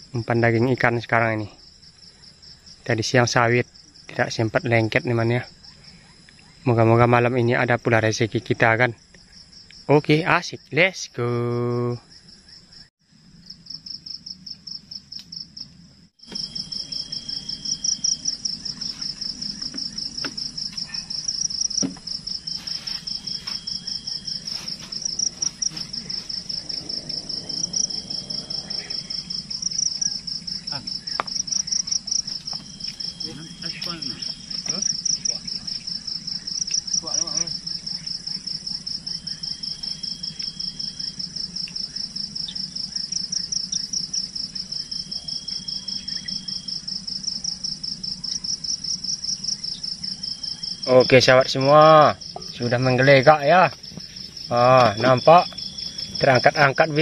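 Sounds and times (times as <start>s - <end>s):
crickets chirring: 0.0s - 57.0s
steady insect tone: 0.0s - 57.0s.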